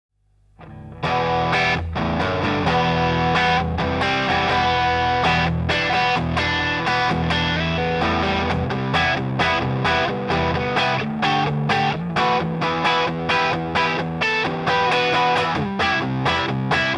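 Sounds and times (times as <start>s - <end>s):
overdriven electric guitar: 0.6s - 16.9s.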